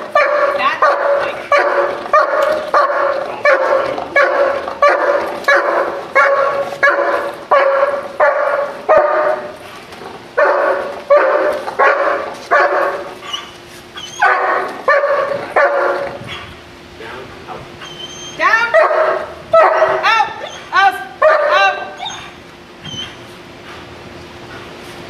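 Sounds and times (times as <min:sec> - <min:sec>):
dog barking: 0:00.0 - 0:09.6, 0:10.4 - 0:16.5, 0:17.8 - 0:22.4.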